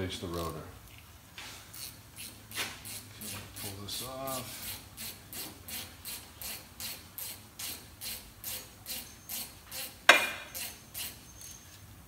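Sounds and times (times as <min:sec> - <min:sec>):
ratchet wrench clicking: 0:01.7 - 0:11.6.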